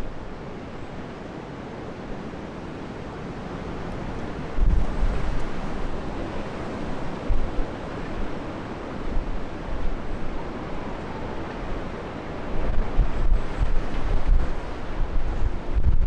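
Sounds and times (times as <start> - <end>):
strong wind buffeting microphone: 2.5 - 16.0.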